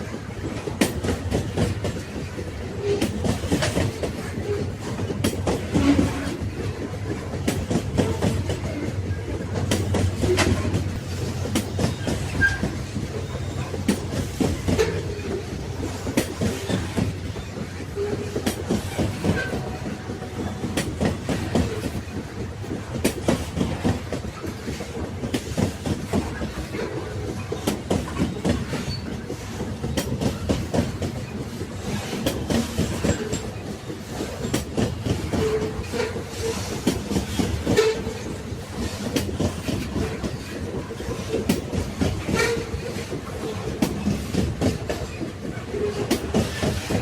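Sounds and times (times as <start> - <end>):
clickety-clack over rail joints: 0.0 - 47.0
train wheels rumbling: 0.0 - 47.0.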